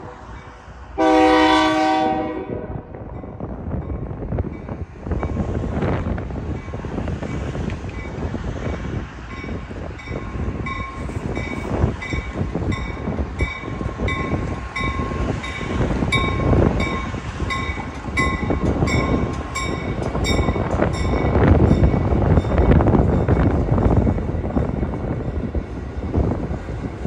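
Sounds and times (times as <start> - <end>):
passing train rumble: 0.0 - 27.0.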